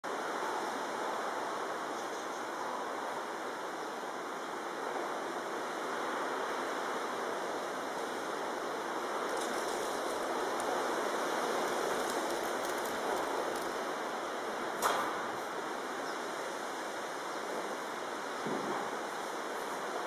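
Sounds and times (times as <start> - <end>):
steady rushing noise: 2.6 - 20.0.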